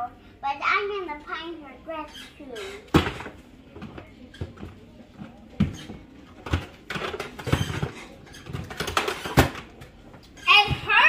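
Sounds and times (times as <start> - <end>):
toys knocking and rustling: 2.1 - 11.0.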